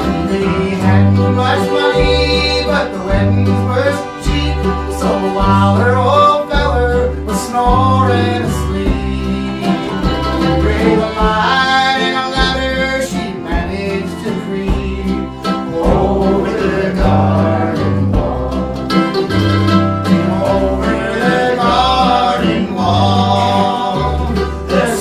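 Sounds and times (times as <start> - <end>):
string band playing old-time music: 0.0 - 25.0.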